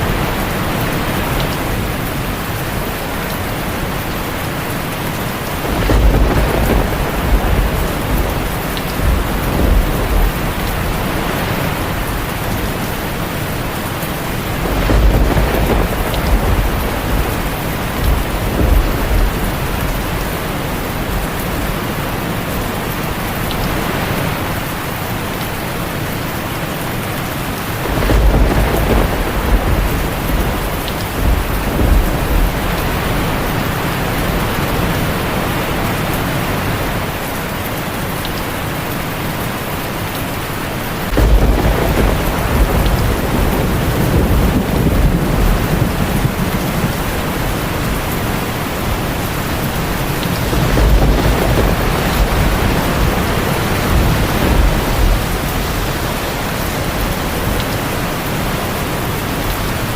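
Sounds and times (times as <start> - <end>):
thunder rumbling: 0.0 - 25.3, 26.8 - 37.3, 40.8 - 59.9
heavy rain on a tin roof: 0.0 - 59.9.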